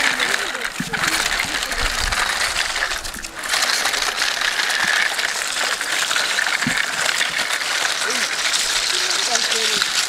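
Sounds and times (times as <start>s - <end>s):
toy cars rattling over sand: 0.0s - 10.0s.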